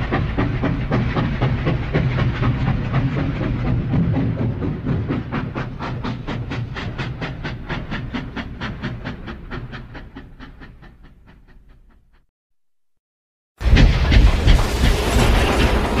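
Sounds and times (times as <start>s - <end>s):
steam locomotive chuffing: 0.0s - 12.3s, 13.6s - 16.0s.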